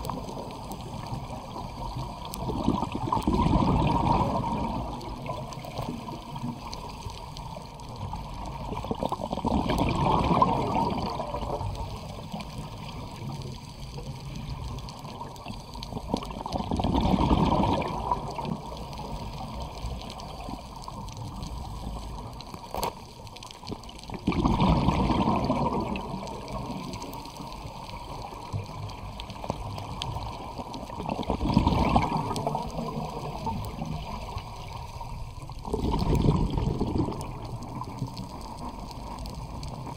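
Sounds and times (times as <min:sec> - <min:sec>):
bubbles gurgling underwater: 0:00.0 - 0:39.9.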